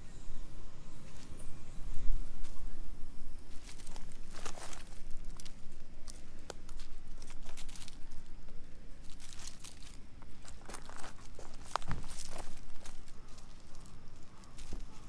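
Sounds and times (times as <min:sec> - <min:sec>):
steady low rumble: 0:00.0 - 0:15.0
dry leaves crackling and rustling: 0:02.4 - 0:15.0.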